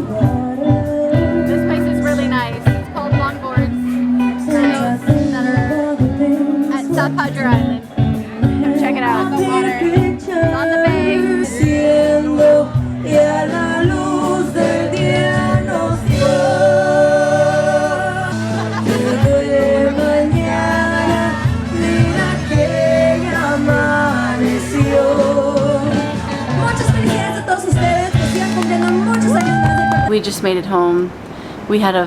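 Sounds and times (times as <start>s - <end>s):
person singing a song: 0.0s - 2.2s, 3.8s - 30.1s
instrumental backing: 0.0s - 32.0s.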